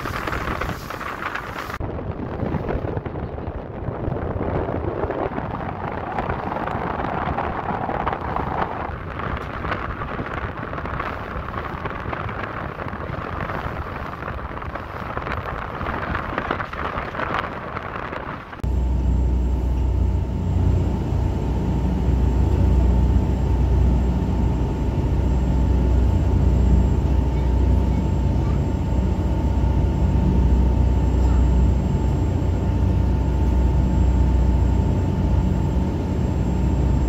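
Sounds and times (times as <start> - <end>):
boat engines droning: 0.0 - 37.0
wind and water rushing: 0.0 - 37.0
thin steady whine: 5.1 - 37.0.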